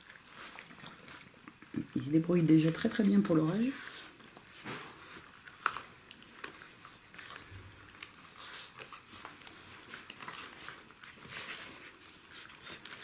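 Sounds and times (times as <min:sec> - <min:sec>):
puppies chewing and biting: 0:00.0 - 0:13.0.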